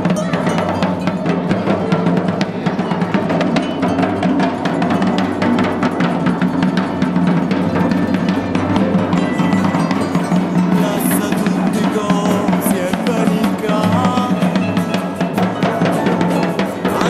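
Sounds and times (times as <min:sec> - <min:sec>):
large drum beaten fast: 0:00.0 - 0:17.0.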